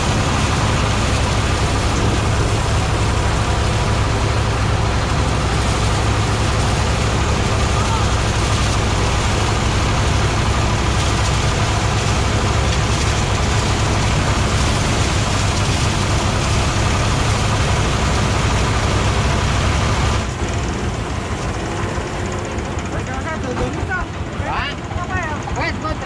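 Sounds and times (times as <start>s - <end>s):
low engine hum: 0.0s - 26.0s
threshing drum and blower noise: 0.0s - 26.0s.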